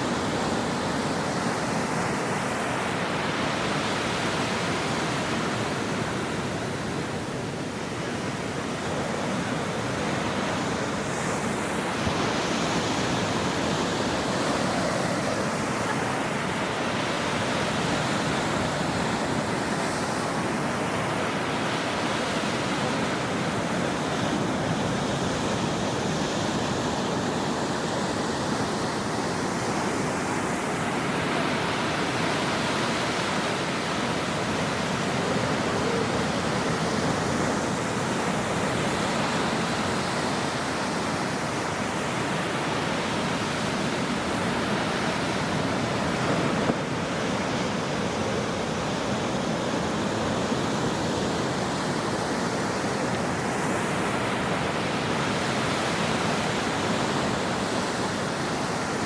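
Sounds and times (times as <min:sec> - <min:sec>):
ocean surf on a shore: 0:00.0 - 0:59.0.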